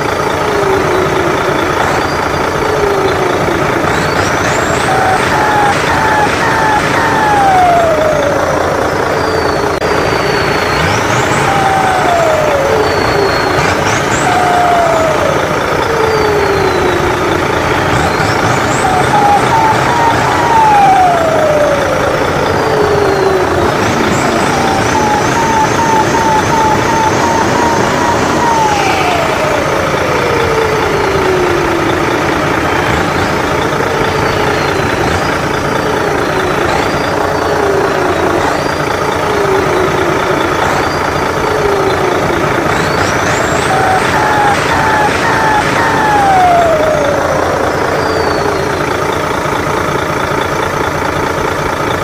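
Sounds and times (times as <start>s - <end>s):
turbo whistle: 0.0s - 49.2s
simulated diesel engine revving: 0.0s - 52.0s.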